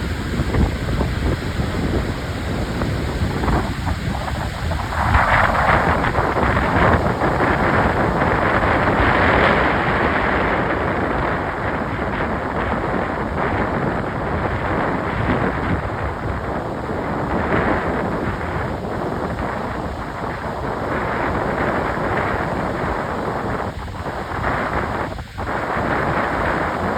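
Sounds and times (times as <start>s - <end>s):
waves surging against pier: 0.0s - 26.9s
wind buffeting microphone: 0.0s - 26.9s.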